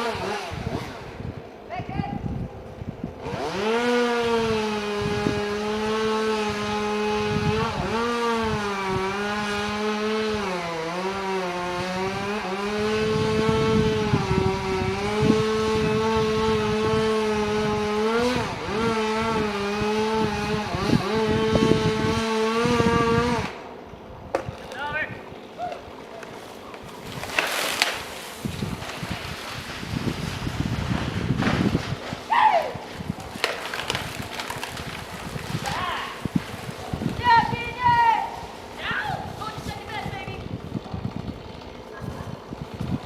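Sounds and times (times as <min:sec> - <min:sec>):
chainsaw cutting at high revs: 0:00.0 - 0:01.4, 0:03.2 - 0:23.8, 0:25.3 - 0:43.0.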